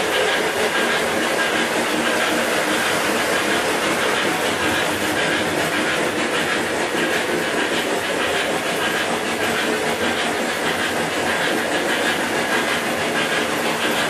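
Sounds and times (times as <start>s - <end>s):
hiss: 0.0s - 14.0s
model train wheels clattering: 0.0s - 14.0s
motor hum: 0.0s - 14.0s.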